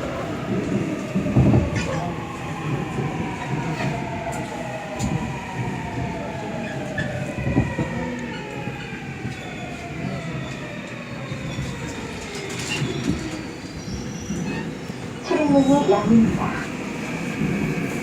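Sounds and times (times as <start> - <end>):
wheels rumbling on track: 0.0 - 18.0.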